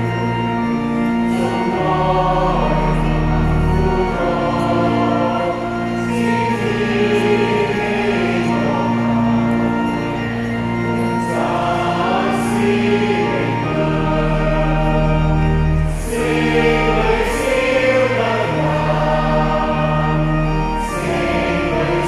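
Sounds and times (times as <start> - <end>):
mixed choir singing a hymn: 0.0 - 22.0.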